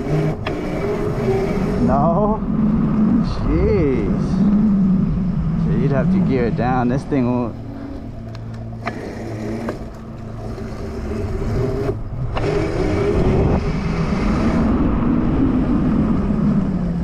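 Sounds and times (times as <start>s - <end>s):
electric motor whine: 0.0s - 3.3s, 4.1s - 17.0s
wind on microphone: 0.0s - 17.0s.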